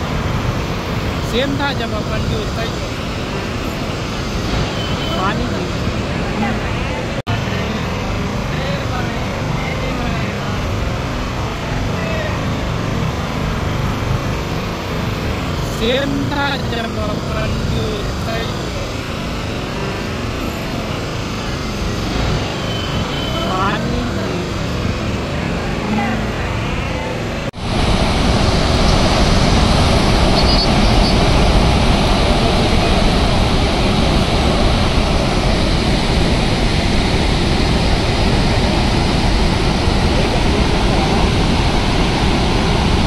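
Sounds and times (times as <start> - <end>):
water rushing through spillway: 0.0 - 43.0.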